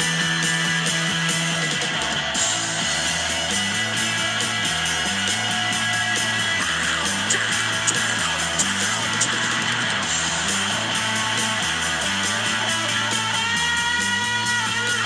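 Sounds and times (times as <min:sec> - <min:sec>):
guitar-driven song: 0:00.0 - 0:15.0
stepping bass line: 0:00.0 - 0:15.0.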